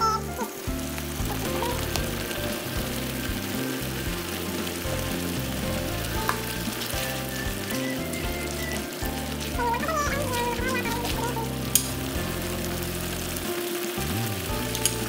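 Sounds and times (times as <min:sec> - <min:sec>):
sauce sizzling in a frying pan: 0:00.0 - 0:15.0
spatula stirring: 0:00.3 - 0:15.0.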